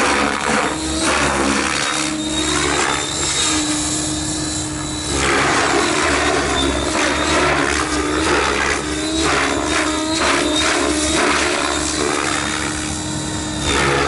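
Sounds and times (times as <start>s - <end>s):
rc helicopter motor and rotor whine: 0.0s - 14.0s.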